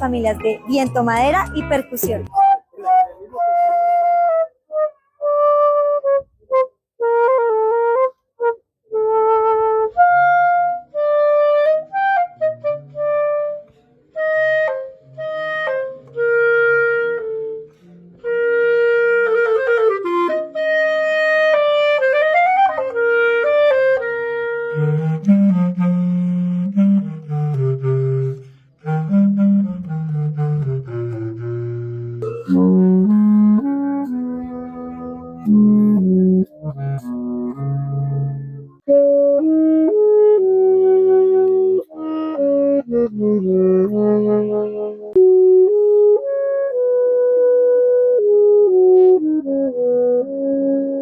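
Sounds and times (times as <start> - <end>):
woodwind instruments playing: 0.0 - 51.0.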